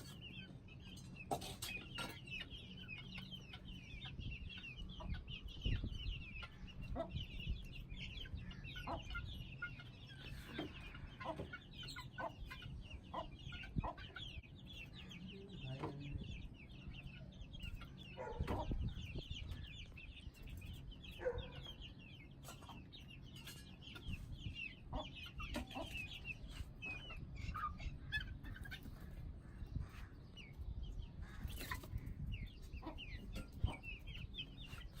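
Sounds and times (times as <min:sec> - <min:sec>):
chicks peeping and clucking: 0:00.0 - 0:35.0.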